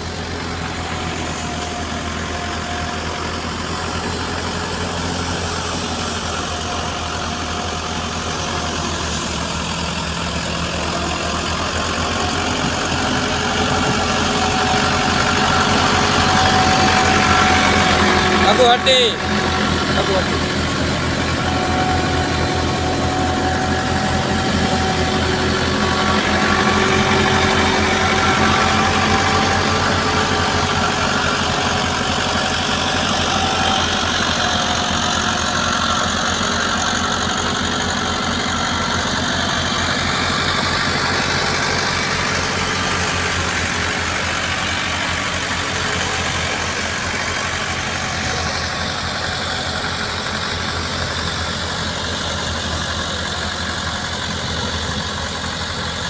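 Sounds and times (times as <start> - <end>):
thresher whirring: 0.0 - 56.0
tractor engine running: 0.0 - 56.0.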